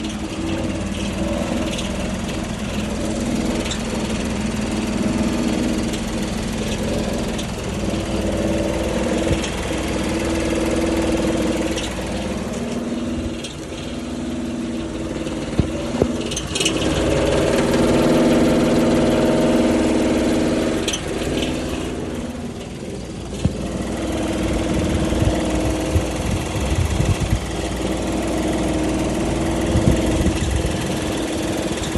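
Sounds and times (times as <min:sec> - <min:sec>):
car engine running: 0:00.0 - 0:31.9
sharp engine ticks: 0:00.0 - 0:31.9.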